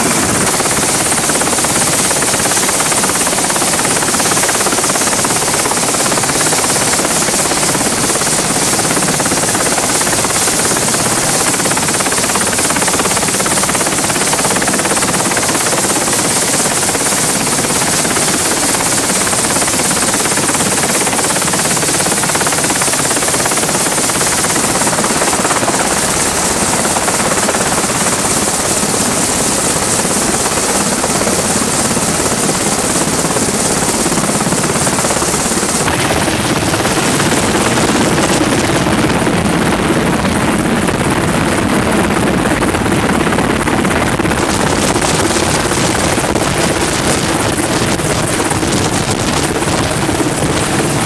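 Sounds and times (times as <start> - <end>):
helicopter rotor and turbines: 0.0 - 51.0
high turbine whine: 0.0 - 51.0.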